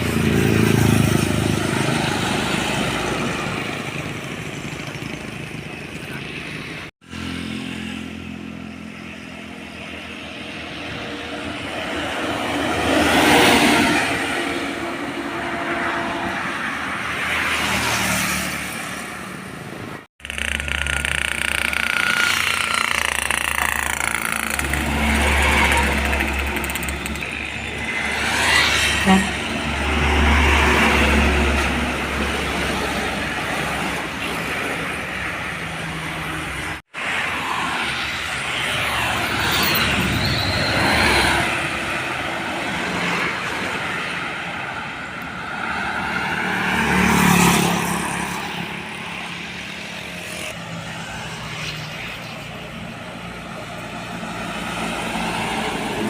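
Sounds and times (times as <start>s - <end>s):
trucks driving past: 0.0s - 56.0s.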